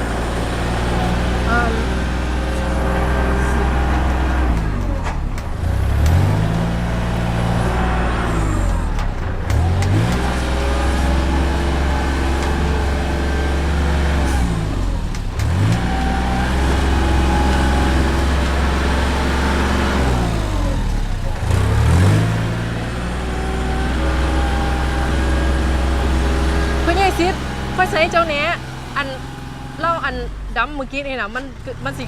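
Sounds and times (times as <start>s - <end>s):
heavy diesel machinery revving: 0.0s - 32.0s.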